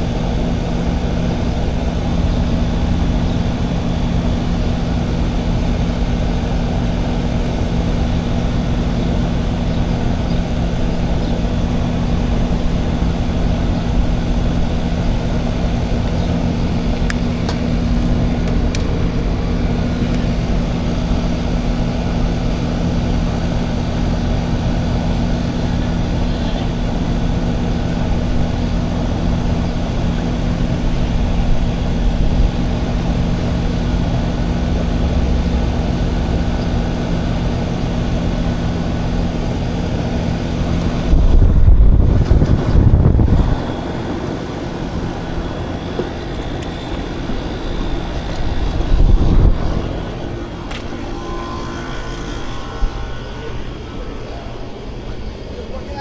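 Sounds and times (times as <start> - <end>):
air conditioner compressor hum: 0.0 - 56.0
air conditioner fan rushing: 0.0 - 56.0.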